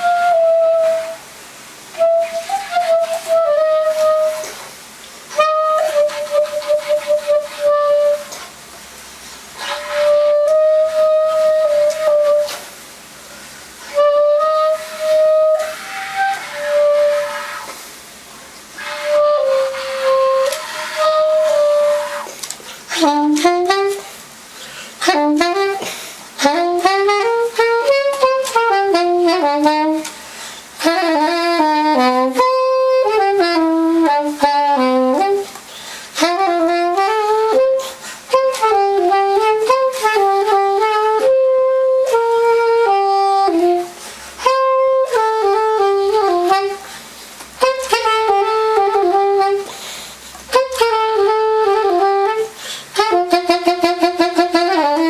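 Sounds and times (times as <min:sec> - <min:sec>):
soprano saxophone melody: 0:00.0 - 0:18.0, 0:18.6 - 0:55.0.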